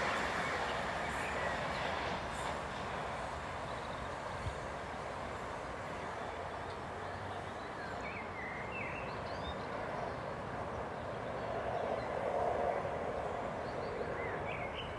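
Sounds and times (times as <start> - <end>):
distant electric train rumble: 0.0 - 14.9.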